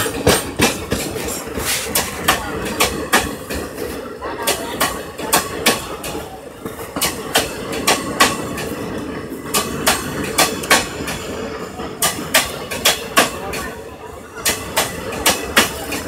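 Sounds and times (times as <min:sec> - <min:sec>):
train rumble: 0:00.0 - 0:16.0
train wheels clacking over rail joints: 0:00.0 - 0:16.0.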